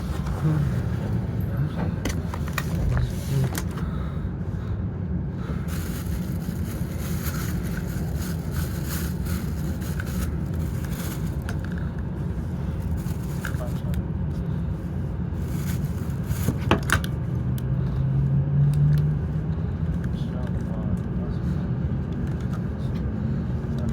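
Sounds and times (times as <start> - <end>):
train rumble inside carriage: 0.0 - 23.9.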